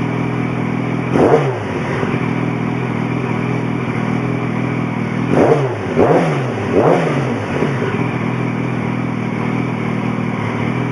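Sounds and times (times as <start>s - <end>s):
motorcycle engine idling and revving: 0.0s - 10.9s.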